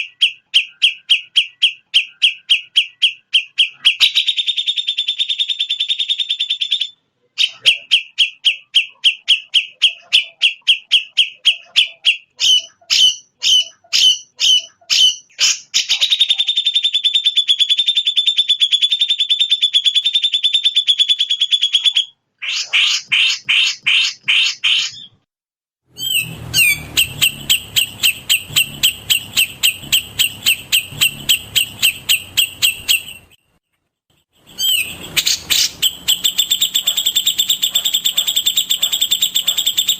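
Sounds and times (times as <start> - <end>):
recorded songbird song: 0.0 - 25.3, 25.9 - 39.9.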